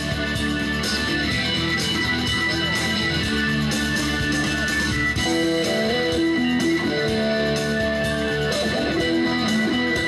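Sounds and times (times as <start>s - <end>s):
electric guitar: 0.0s - 10.0s
electronic keyboard: 0.0s - 10.0s.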